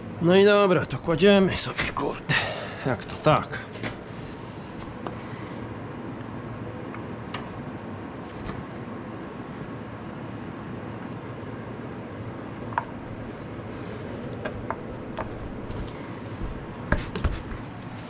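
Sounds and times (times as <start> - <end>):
steady background rumble: 0.0 - 18.0.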